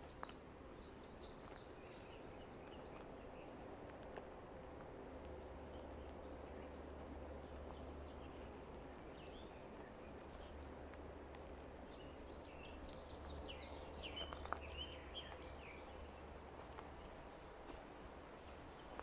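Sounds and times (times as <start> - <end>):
songbird chirping: 0.0 - 3.6, 5.6 - 19.0.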